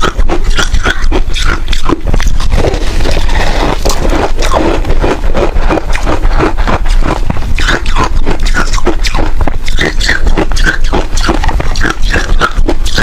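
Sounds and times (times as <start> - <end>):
crunching frost ice being eaten: 0.0 - 13.0.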